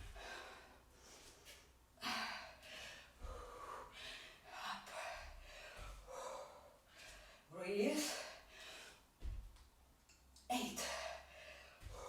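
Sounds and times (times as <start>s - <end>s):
woman breathing hard: 0.0s - 7.5s, 8.1s - 9.4s, 10.8s - 12.0s.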